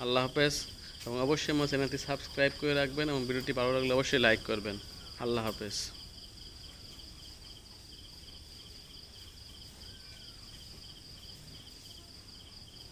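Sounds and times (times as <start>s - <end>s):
crickets trilling: 0.0s - 12.9s
lower pulsing insect chirp: 0.0s - 12.9s.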